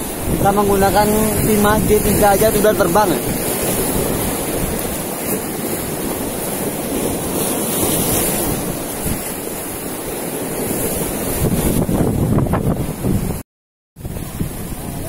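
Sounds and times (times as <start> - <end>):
heavy surf on beach: 0.0 - 13.4, 14.0 - 15.0
strong wind: 0.0 - 13.4, 14.0 - 15.0.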